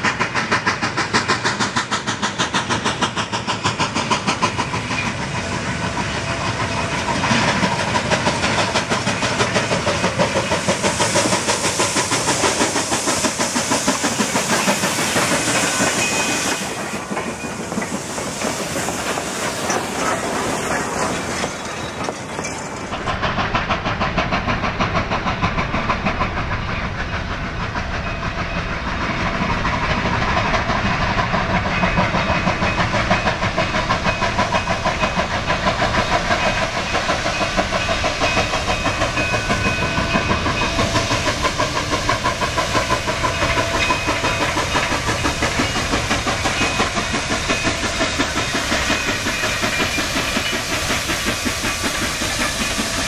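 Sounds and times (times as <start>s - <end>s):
steam hiss: 0.0s - 53.0s
steam locomotive exhaust chuffs: 0.0s - 53.0s
train cars rolling past: 0.0s - 53.0s.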